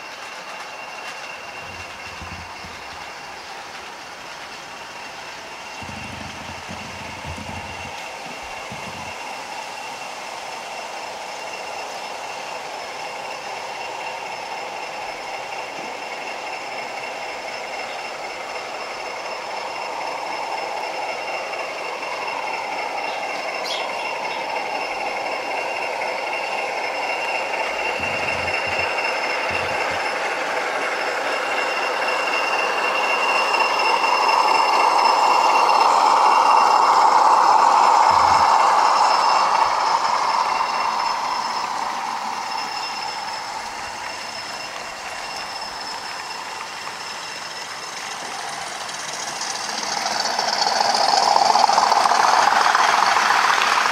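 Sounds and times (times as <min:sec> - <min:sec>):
model train motor whine: 0:00.0 - 0:53.9
wheels running on rails: 0:00.0 - 0:53.9.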